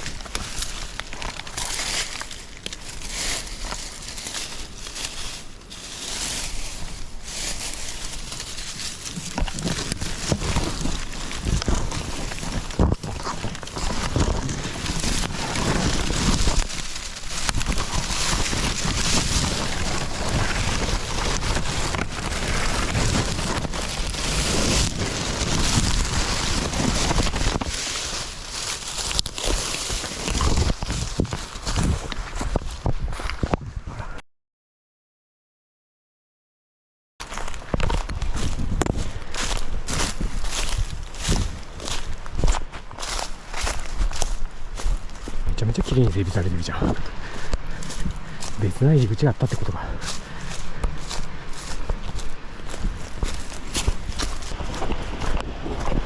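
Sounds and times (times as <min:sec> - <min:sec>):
footsteps crunching in leaf litter: 0:00.0 - 0:33.4, 0:37.2 - 0:56.0
branches and leaves rustling: 0:00.0 - 0:33.5, 0:37.2 - 0:56.0.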